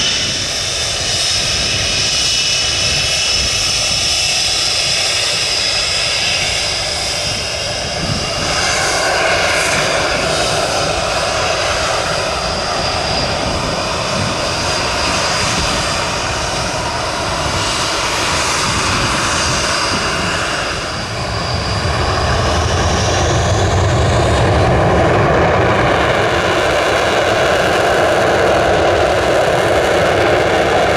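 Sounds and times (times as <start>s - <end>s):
jet engines roaring with turbine whine: 0.0s - 30.9s.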